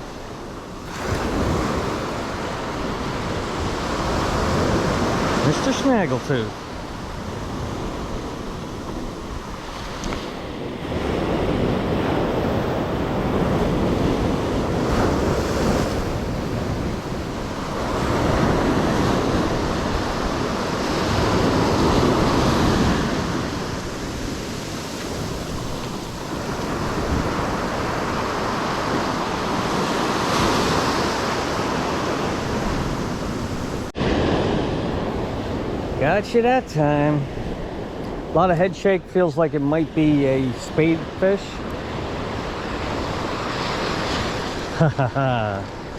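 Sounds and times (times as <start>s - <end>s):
wind on microphone: 0.0s - 5.5s, 6.5s - 38.4s
surf washing onto beach: 0.0s - 45.9s.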